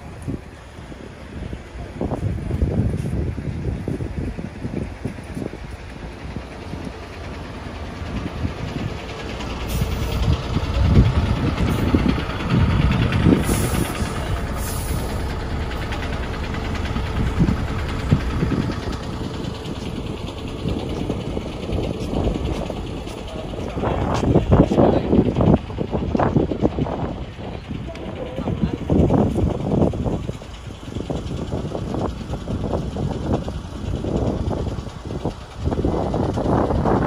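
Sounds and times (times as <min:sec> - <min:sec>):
vehicle engine humming: 0:00.0 - 0:37.0
wind buffeting microphone: 0:00.0 - 0:37.0.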